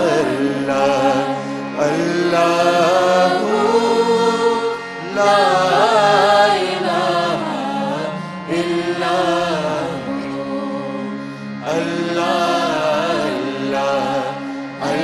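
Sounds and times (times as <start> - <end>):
harmonium drone: 0.0 - 15.0
man singing devotional song: 0.0 - 15.0.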